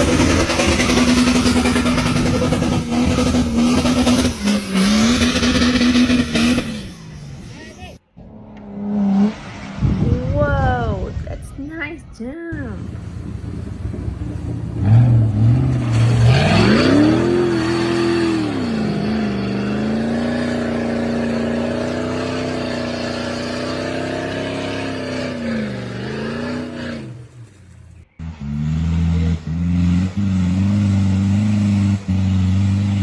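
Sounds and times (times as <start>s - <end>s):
engine revving hard: 0.0s - 10.2s, 14.6s - 27.4s, 28.1s - 33.0s
engine running at low revs: 0.0s - 11.9s, 12.5s - 33.0s.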